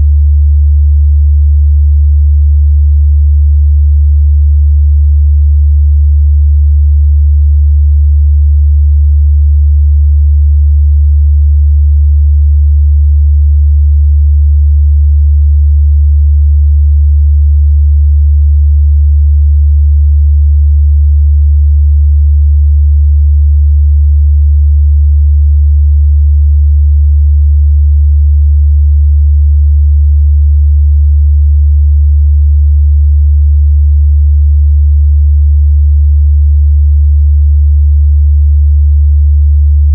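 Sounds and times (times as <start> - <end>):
deep bass test tone: 0.0 - 35.4.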